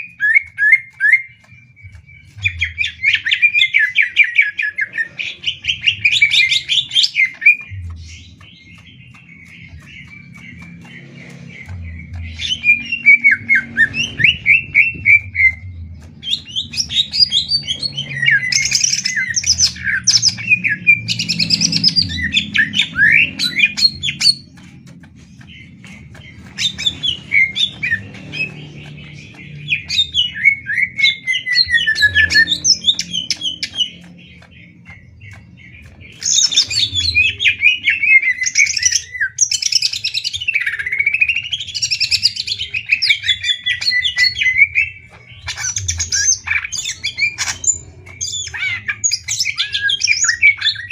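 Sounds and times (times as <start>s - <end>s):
birds singing and chattering: 0.0s - 50.9s.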